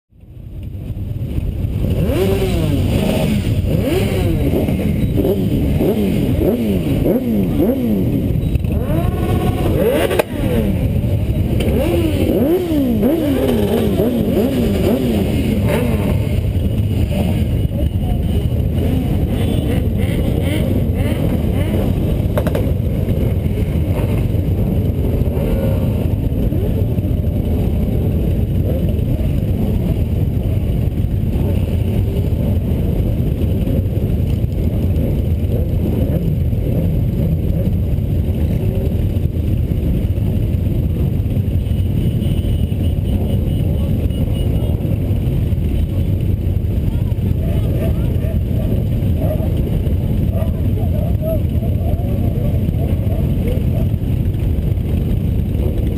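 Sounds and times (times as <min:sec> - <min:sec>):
motorcycle engines idling: 0:00.2 - 0:55.9
motorcycle throttle revs: 0:01.3 - 0:55.9.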